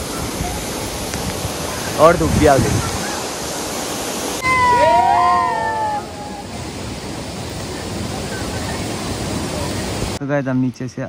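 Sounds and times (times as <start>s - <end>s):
waterfall roaring: 0.0s - 10.2s.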